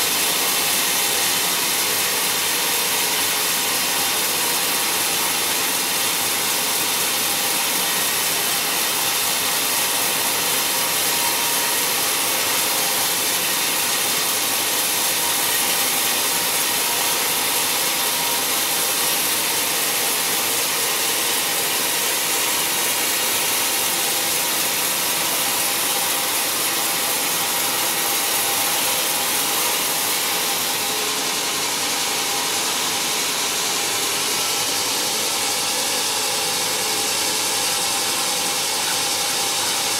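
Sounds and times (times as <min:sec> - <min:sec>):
band saw cutting wood: 0:00.0 - 0:39.9
sawmill machine running: 0:00.0 - 0:39.9.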